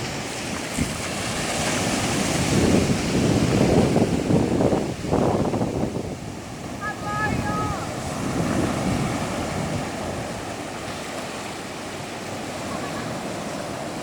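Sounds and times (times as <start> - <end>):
sea waves washing up beach: 0.0 - 14.0
wind buffeting microphone: 0.0 - 14.0.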